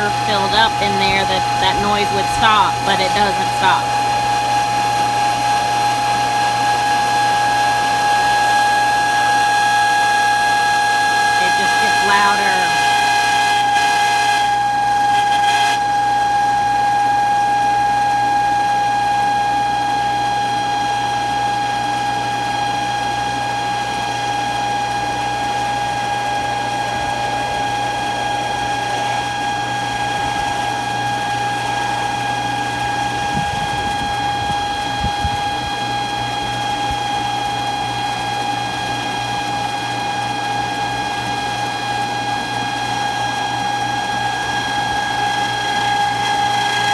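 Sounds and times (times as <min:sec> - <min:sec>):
pool pump high-pitched squeal: 0:00.0 - 0:46.9.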